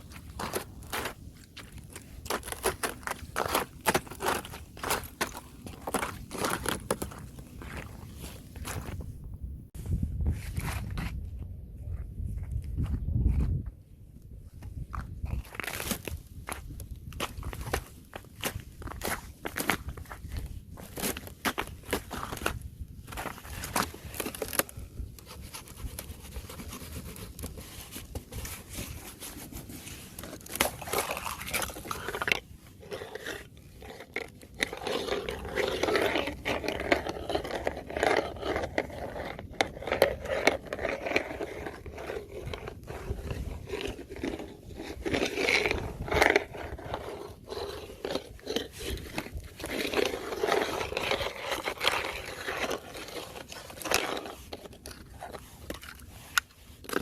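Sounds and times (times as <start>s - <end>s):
ice scraping and crunching: 0.0s - 9.2s, 15.3s - 57.0s.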